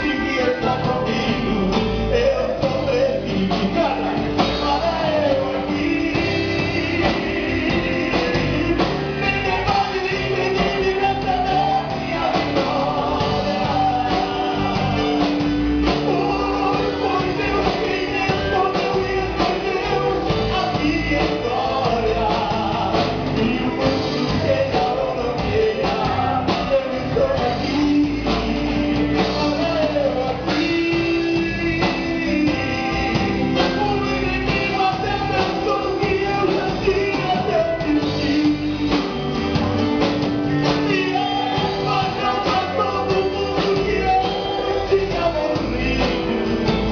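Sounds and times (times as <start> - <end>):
lead singer singing: 0.0 - 46.9
rock band playing: 0.0 - 46.9.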